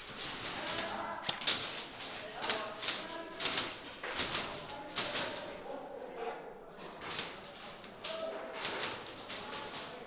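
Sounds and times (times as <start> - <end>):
faint distant voices: 0.0 - 10.0.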